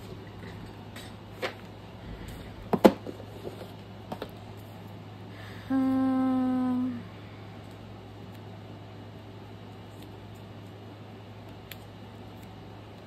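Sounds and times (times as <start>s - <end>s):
low electrical hum: 0.0s - 13.0s
steady even-pitched hum: 0.0s - 13.0s.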